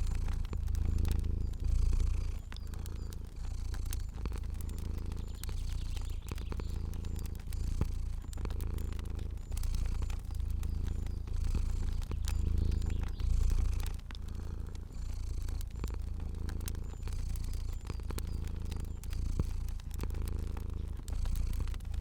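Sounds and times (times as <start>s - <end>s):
cat purring: 0.0s - 22.0s
fire crackling: 0.0s - 22.0s.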